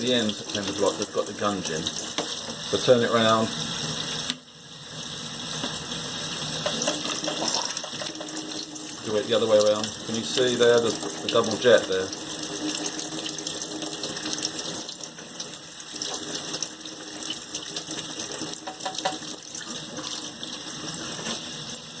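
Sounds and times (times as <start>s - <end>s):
tap water running: 0.0s - 22.0s.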